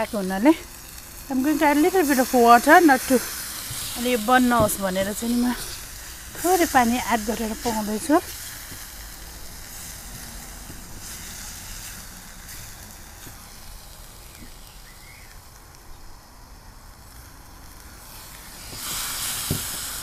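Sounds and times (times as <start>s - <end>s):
meat sizzling in a skillet: 0.0s - 20.0s.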